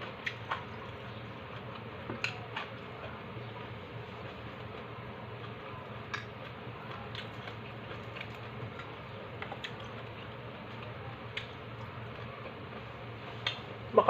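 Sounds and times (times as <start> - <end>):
crunchy food being chewed: 0.0 - 13.7
low background hum: 0.0 - 14.0.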